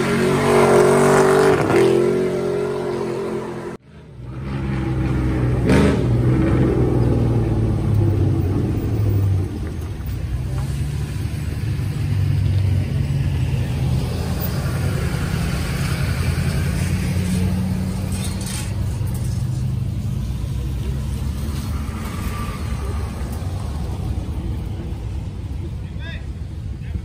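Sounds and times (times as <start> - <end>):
pickup truck engines rumbling: 0.0 - 27.0.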